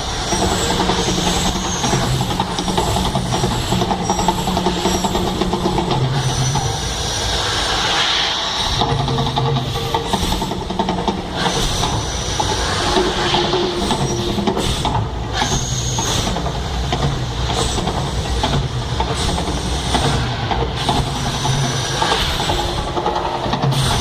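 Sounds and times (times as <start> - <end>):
staged volcano rumbling and hissing: 0.0 - 24.0.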